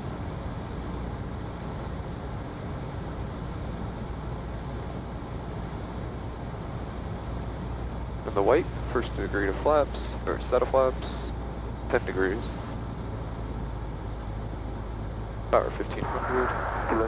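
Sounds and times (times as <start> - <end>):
plane engine and propeller drone: 0.0 - 17.0.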